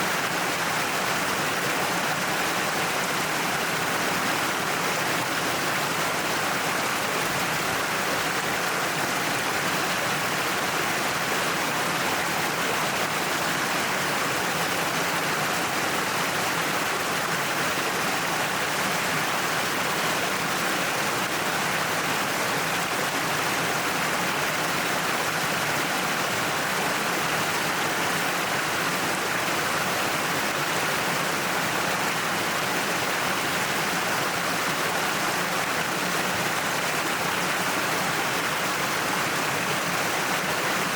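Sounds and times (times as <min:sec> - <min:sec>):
waterfall rushing and splashing: 0:00.0 - 0:40.9.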